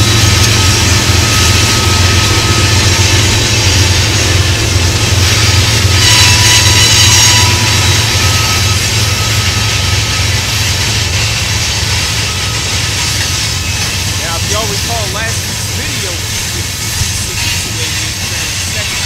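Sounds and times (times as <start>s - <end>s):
diesel locomotive engine rumble: 0.0s - 19.0s
freight cars rolling past: 0.0s - 19.0s.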